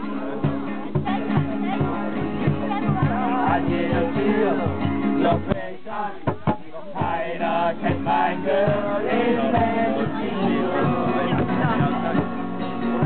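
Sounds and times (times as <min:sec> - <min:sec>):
men singing: 0:00.0 - 0:13.0
rhythmic instrumental accompaniment: 0:00.0 - 0:13.0.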